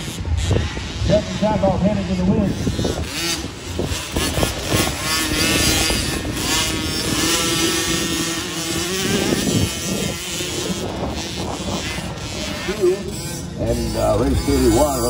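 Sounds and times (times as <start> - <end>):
two-stroke minibike engine: 0.0 - 15.0.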